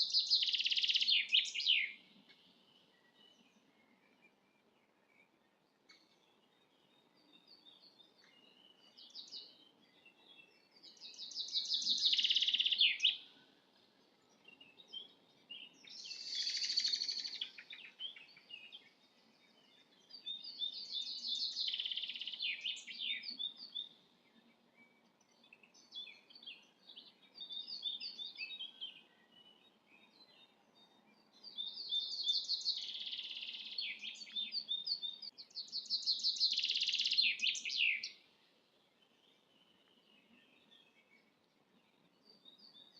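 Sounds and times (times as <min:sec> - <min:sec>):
faint bird chirps: 0:00.0 - 0:42.9.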